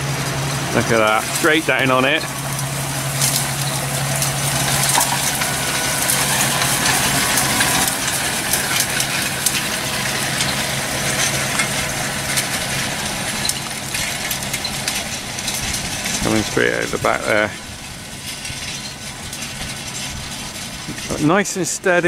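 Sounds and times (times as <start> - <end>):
tractor engine drone: 0.0 - 22.0.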